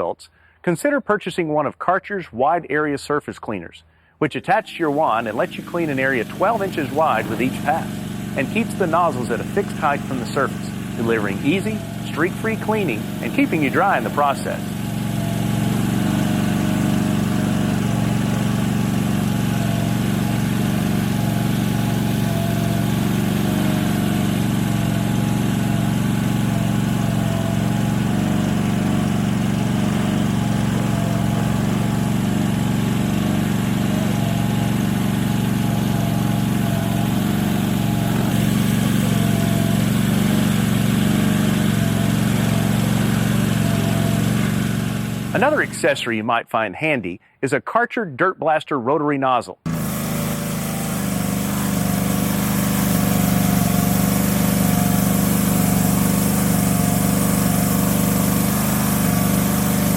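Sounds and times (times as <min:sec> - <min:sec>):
pressure washer engine running: 0:04.4 - 0:46.1, 0:49.6 - 0:59.9
high-pressure water spray hissing: 0:04.6 - 0:45.8, 0:49.7 - 0:59.9.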